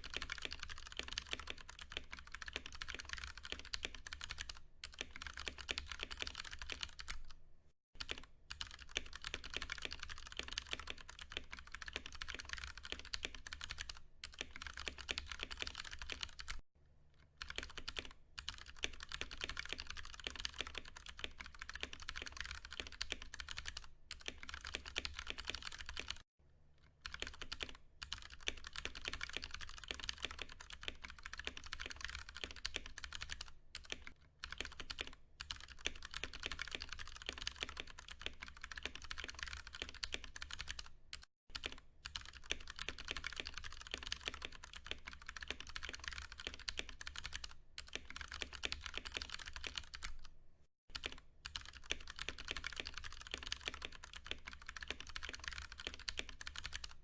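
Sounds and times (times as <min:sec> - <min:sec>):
mechanical keyboard typing: 0:00.0 - 0:07.4, 0:08.0 - 0:16.6, 0:17.4 - 0:26.2, 0:27.0 - 0:50.3, 0:50.9 - 0:57.0.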